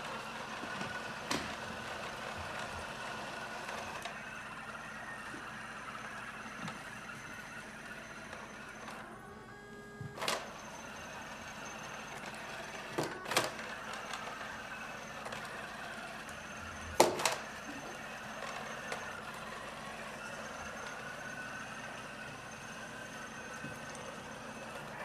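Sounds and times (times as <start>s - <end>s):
robot vacuum motor whirring: 0.0s - 25.0s.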